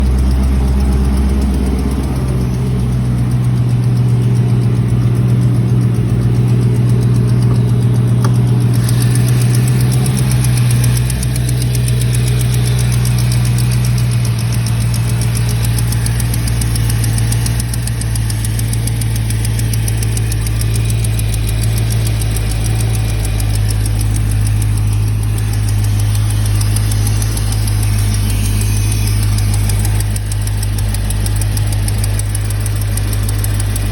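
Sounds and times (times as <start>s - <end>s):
car engine idling with rapid tick: 0.0s - 33.9s.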